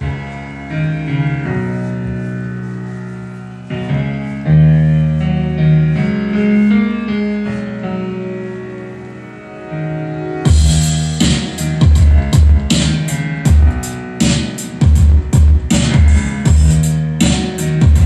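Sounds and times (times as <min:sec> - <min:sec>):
keyboard chords with bass line: 0:00.0 - 0:18.0.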